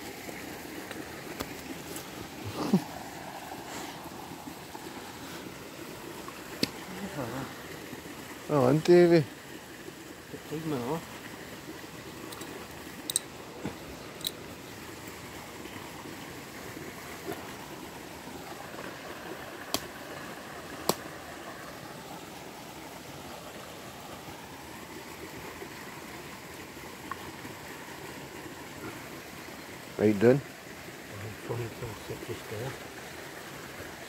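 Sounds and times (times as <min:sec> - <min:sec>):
running water hiss: 0:00.0 - 0:34.0.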